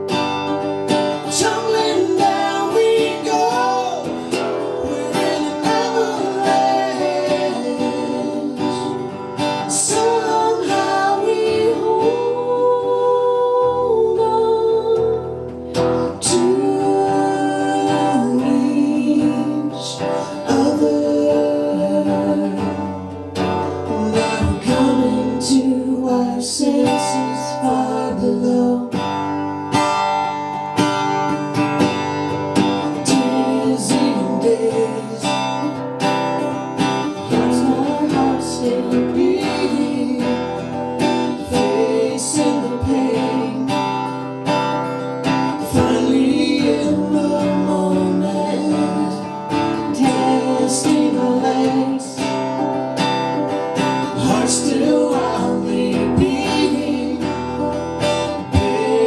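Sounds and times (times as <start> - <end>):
acoustic guitar: 0.0 - 59.0
person singing: 1.1 - 23.0, 23.8 - 29.0, 32.8 - 35.8, 37.1 - 44.2, 45.4 - 52.7, 54.1 - 59.0.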